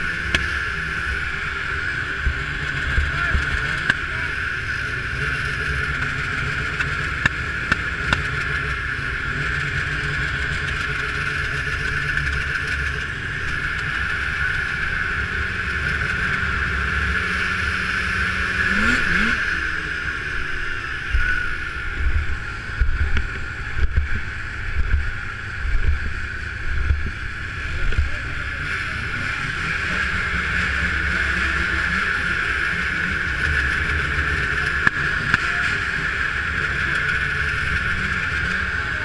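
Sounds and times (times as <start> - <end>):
engine revving: 0.0 - 39.0
snowmobile engines idling: 0.0 - 39.0.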